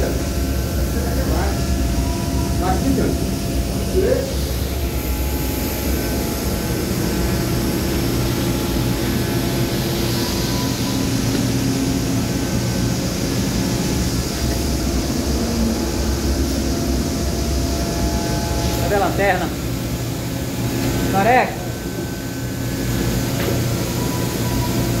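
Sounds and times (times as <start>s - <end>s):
low hum: 0.0s - 25.0s
machine whirring: 0.0s - 25.0s.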